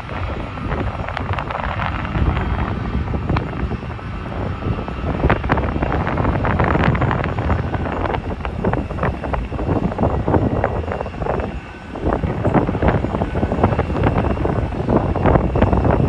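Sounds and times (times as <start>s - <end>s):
jet engines rumble and whine: 0.0s - 16.0s
wind buffeting microphone: 0.0s - 16.0s.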